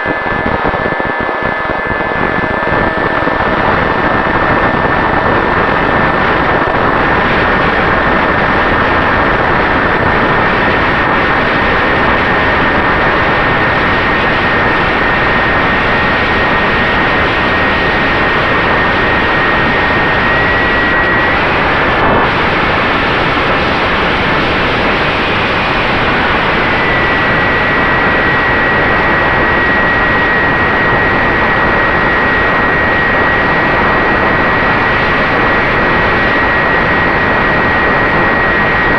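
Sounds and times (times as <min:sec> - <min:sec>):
electric motor high whine: 0:00.0 - 0:38.9
wind rush on microphone: 0:00.0 - 0:38.9.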